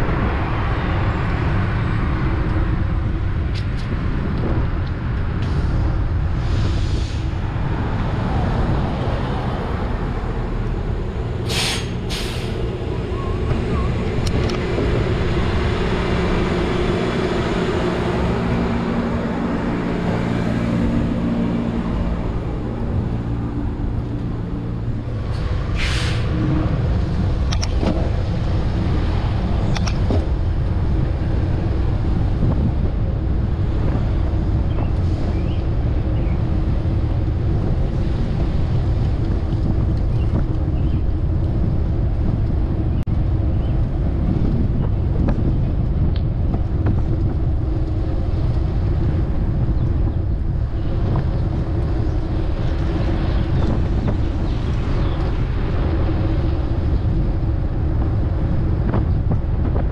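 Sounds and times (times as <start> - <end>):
large vehicle engine running: 0.0 - 59.9
road and wind noise: 0.0 - 59.9.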